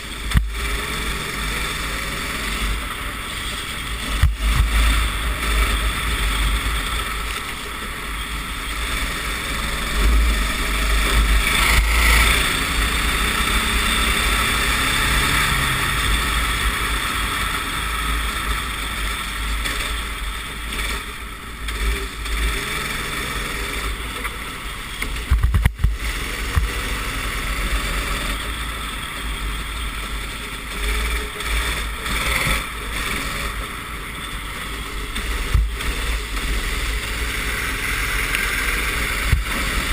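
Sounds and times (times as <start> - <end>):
kart engine under load: 0.0 - 39.9.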